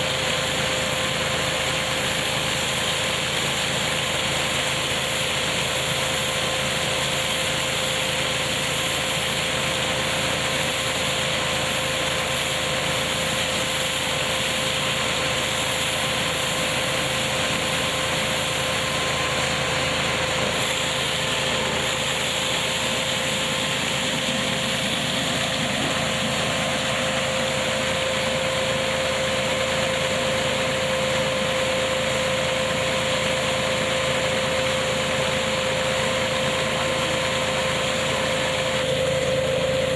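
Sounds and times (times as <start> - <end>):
nut picking machine running: 0.0 - 39.9.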